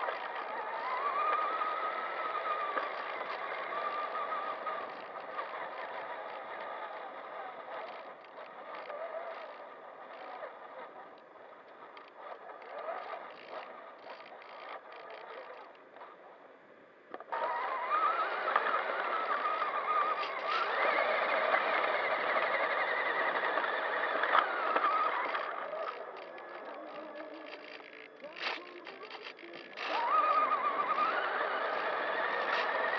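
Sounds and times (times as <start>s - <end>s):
electric motor and gears whining: 0.0s - 16.3s, 17.1s - 32.9s.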